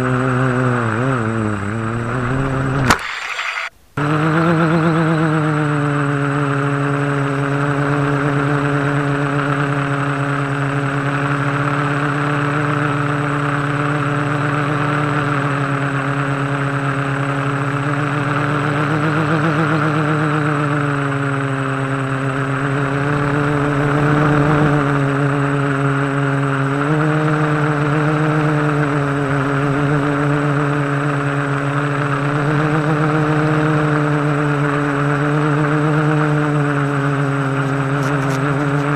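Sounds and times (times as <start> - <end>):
quadcopter motors humming: 0.0 - 38.9.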